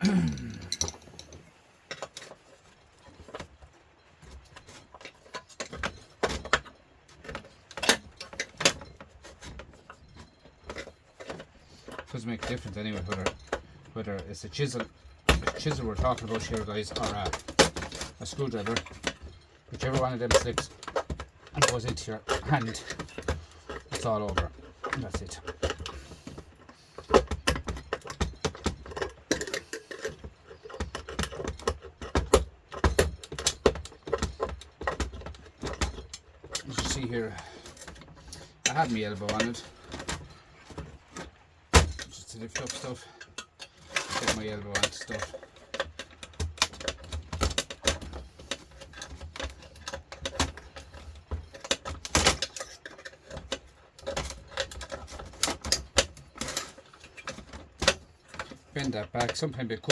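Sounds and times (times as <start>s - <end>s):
screwdriver prying metal parts: 0.0s - 2.4s, 4.6s - 59.5s
hand tools clicking and knocking: 0.0s - 59.9s.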